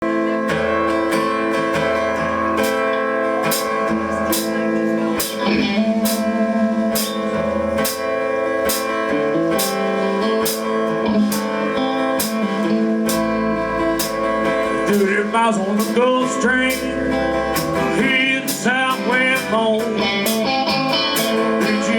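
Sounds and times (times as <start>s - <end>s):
bass guitar: 0.0s - 21.9s
guitars: 0.0s - 21.9s
steady drum beat: 1.7s - 16.1s, 16.7s - 21.9s.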